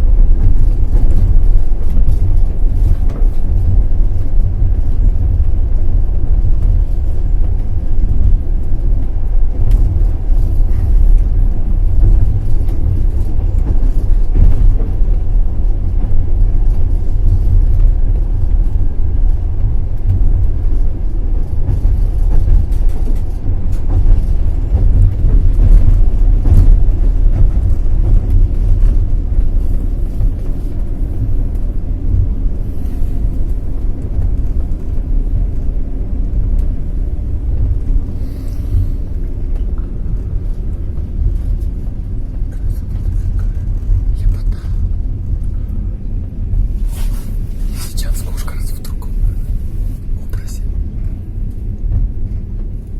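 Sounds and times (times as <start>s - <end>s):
train rumbling on track: 0.0s - 52.9s.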